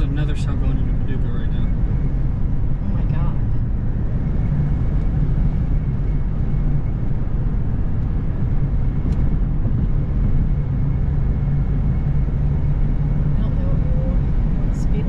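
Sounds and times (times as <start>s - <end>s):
low rumble of road and engine: 0.0s - 15.0s.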